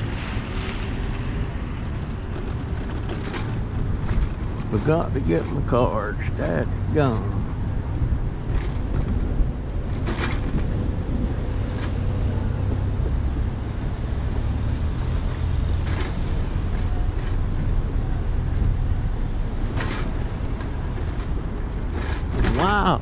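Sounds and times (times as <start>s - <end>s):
scooter motor and tyres rumbling: 0.0s - 23.0s.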